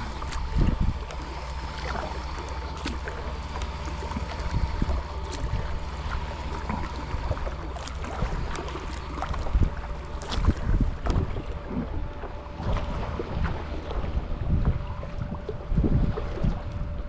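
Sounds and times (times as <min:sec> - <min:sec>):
small water splashes: 0:00.0 - 0:17.0
wind rumble on microphone: 0:00.0 - 0:17.0.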